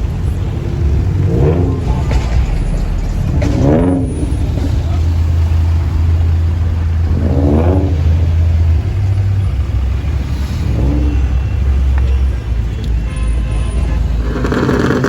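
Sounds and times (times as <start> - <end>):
car engines droning: 0.0 - 15.0
engine revs: 0.0 - 15.0.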